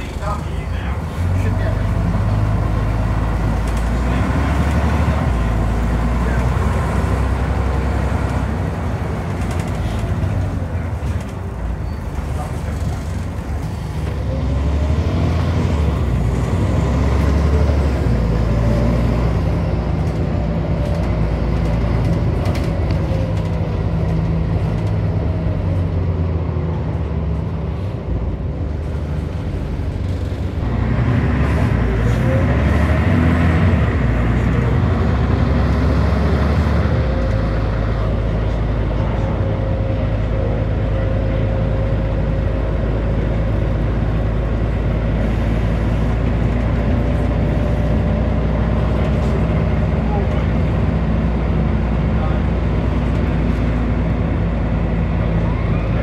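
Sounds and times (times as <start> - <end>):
bus diesel engine accelerating: 0.0 - 56.0.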